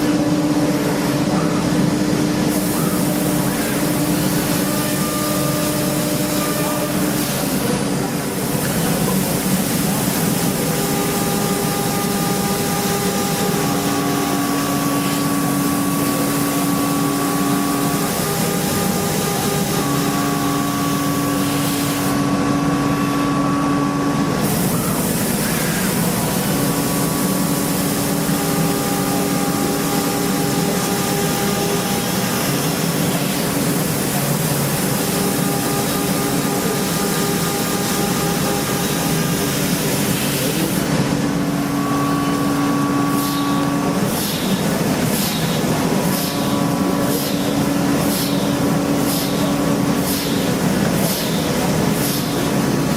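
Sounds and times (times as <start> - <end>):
machine tool cutting metal: 2.4 - 52.9.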